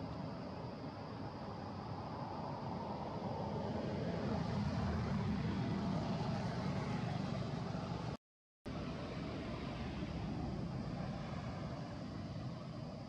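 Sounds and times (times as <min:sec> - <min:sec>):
steady background rumble and hiss: 0:00.0 - 0:13.0.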